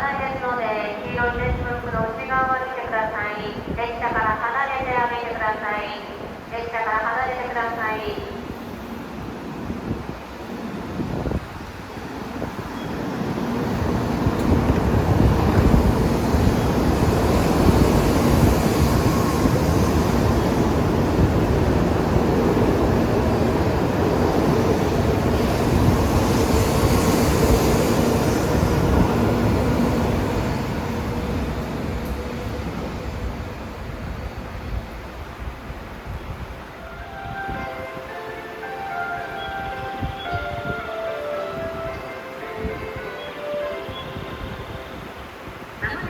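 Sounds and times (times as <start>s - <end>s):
train rushing past: 8.3s - 45.8s.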